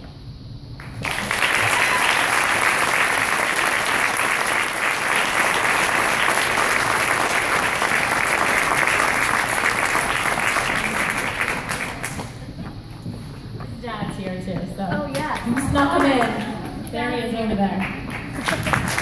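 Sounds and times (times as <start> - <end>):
audience applauding: 0.8 - 12.5, 15.1 - 19.0.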